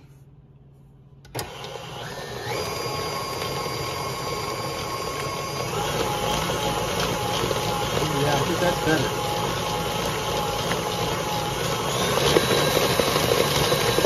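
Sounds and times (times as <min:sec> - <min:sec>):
stand mixer motor whine: 0:01.3 - 0:14.0.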